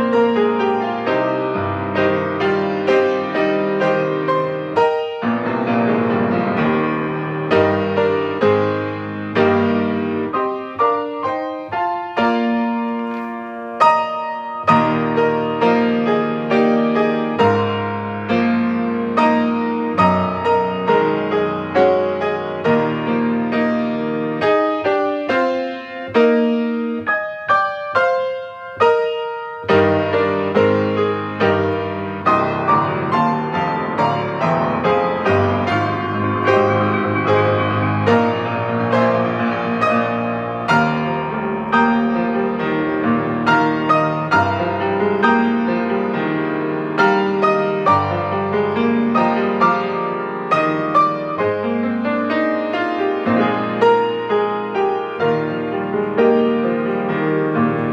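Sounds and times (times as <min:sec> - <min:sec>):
piano music: 0:00.0 - 0:57.9.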